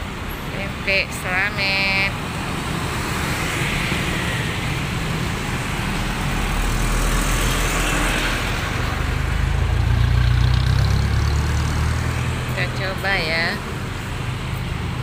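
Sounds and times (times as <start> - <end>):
scooters and cars passing: 0.0 - 15.0.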